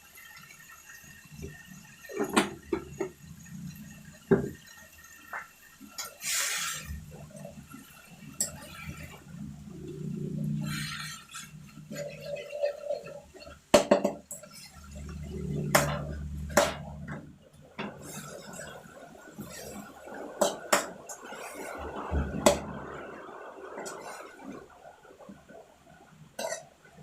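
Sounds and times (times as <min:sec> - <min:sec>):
sizzling in pan: 0:00.0 - 0:24.5.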